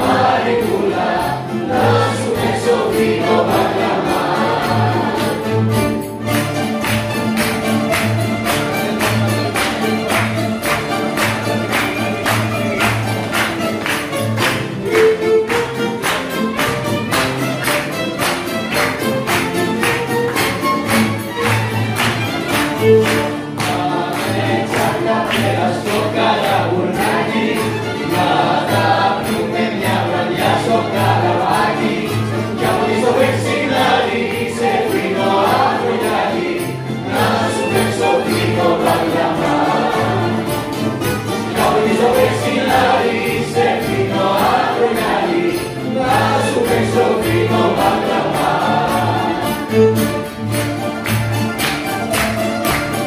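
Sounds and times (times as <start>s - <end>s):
voices singing together: 0.0s - 50.3s
string ensemble playing live: 0.0s - 53.0s.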